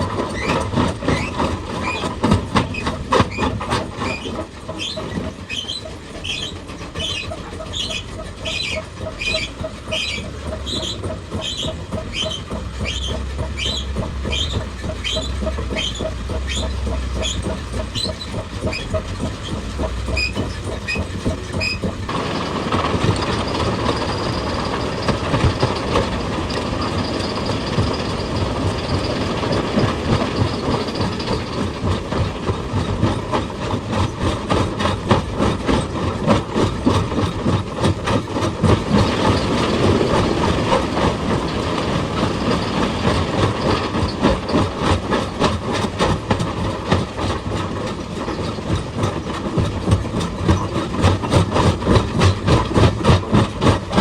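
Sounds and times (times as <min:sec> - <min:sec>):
heavy machinery clattering: 0:00.0 - 0:54.0
steady mechanical noise: 0:00.0 - 0:54.0.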